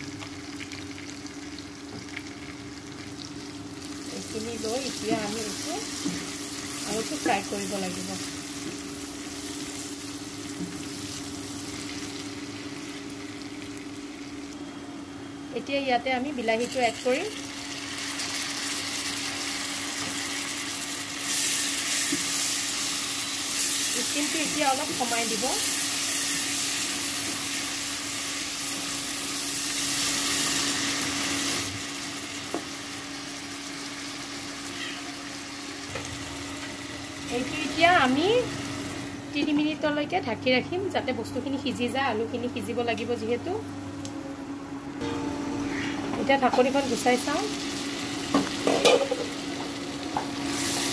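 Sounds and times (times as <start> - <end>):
potatoes sizzling in oil: 0.0 - 14.5, 16.4 - 38.8, 46.4 - 50.9.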